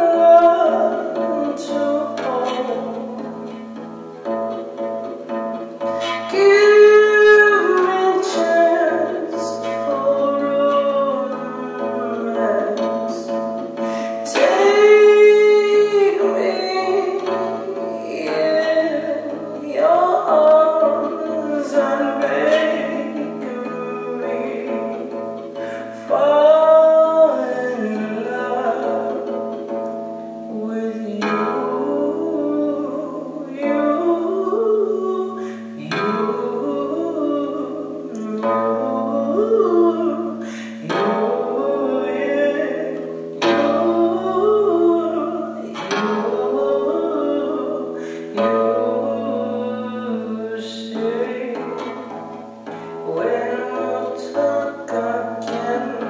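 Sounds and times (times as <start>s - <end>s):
acoustic guitar chords: 0.0s - 56.0s
person singing: 0.0s - 56.0s.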